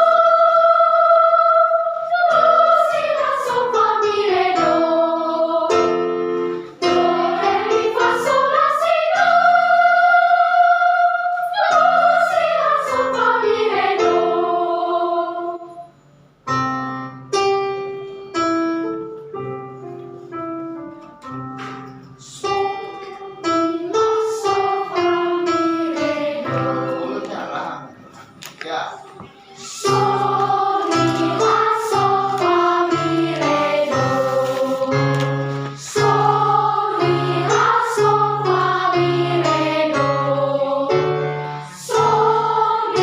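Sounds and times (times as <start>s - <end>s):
children's choir singing: 0.0s - 16.2s, 21.7s - 28.3s, 29.2s - 43.0s
piano: 0.0s - 43.0s.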